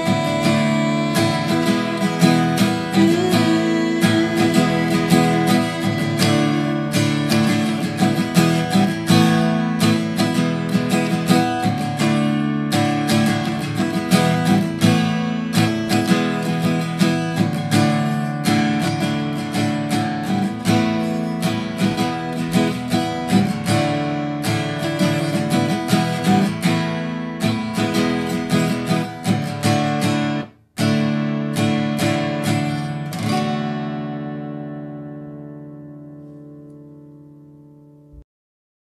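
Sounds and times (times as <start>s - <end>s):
acoustic guitar strumming chords: 0.0s - 38.2s.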